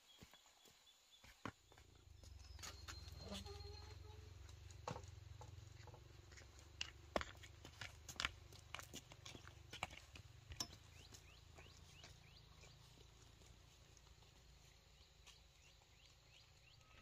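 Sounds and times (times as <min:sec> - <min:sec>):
sandal footsteps on dirt path: 0:00.0 - 0:17.0.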